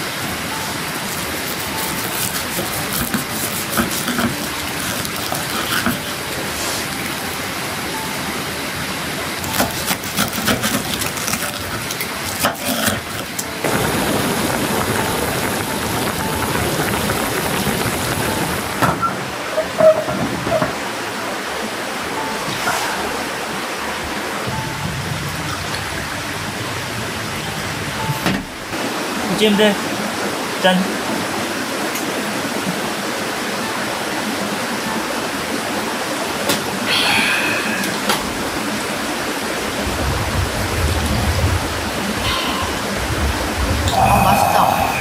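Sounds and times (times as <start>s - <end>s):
rain on a tent: 0.0s - 22.5s, 23.2s - 45.0s.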